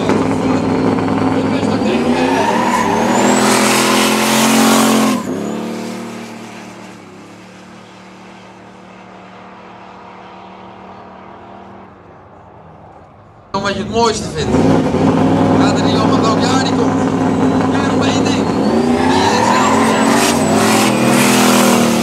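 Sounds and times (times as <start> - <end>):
cars launching at full throttle: 0.0 - 12.0, 13.5 - 22.0.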